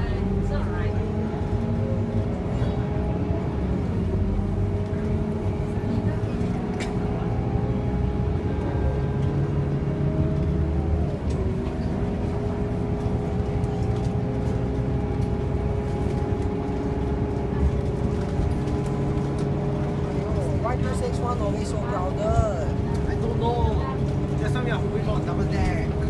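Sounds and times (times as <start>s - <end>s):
bus diesel engine rumble: 0.0s - 26.0s.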